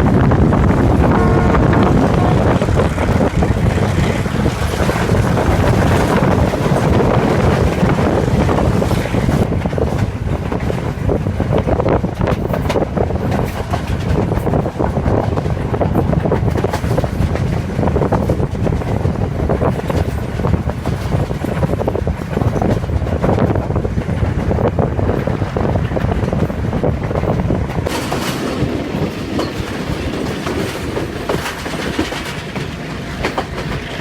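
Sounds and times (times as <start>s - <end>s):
train rumbling: 0.0s - 34.0s
wind rushing over microphone: 0.0s - 34.0s.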